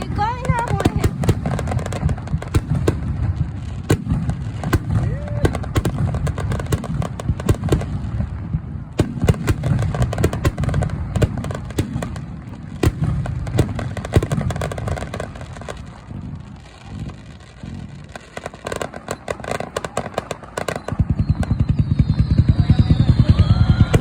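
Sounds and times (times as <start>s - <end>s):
rapid crackling bursts: 0.0s - 24.0s.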